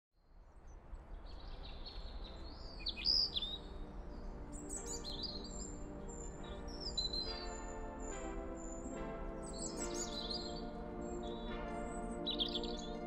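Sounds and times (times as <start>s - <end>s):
birds chirping and singing: 0.6s - 13.0s
soft music: 0.8s - 13.0s.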